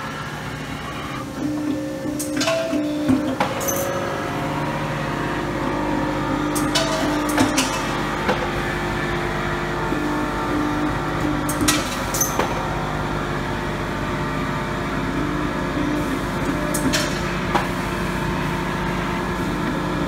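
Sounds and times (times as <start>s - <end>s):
machine table whine: 0.0s - 20.0s
punching machine hum: 0.0s - 20.0s.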